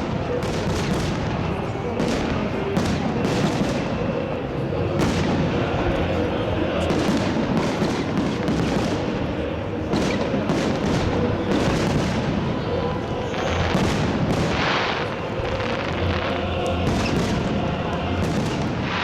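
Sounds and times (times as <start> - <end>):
fireworks booms and cracks: 0.0 - 19.0.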